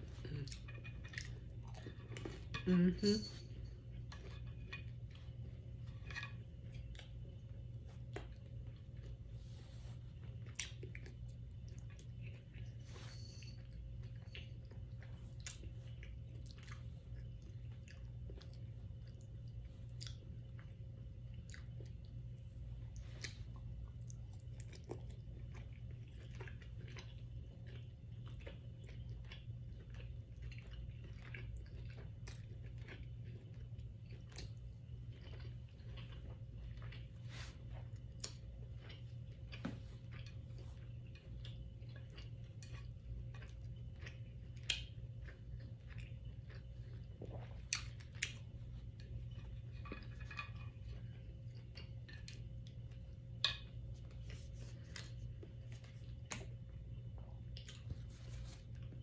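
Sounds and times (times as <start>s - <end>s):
person chewing with wet smacks: 0.0s - 2.7s, 3.4s - 12.9s, 13.6s - 59.0s
steady low hum: 0.0s - 59.0s.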